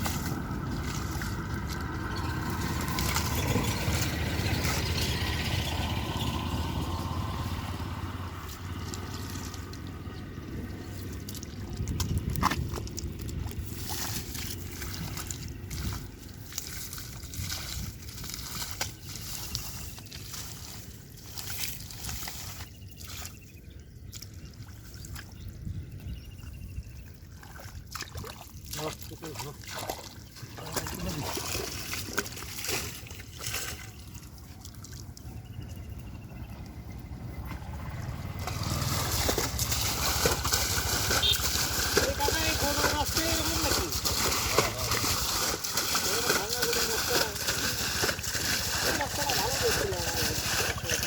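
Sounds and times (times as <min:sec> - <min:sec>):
water splashes and knocks: 0:00.0 - 0:06.8, 0:07.5 - 0:23.4, 0:27.2 - 0:35.4, 0:37.4 - 0:51.0
shallow water sloshing and trickling: 0:00.0 - 0:51.0.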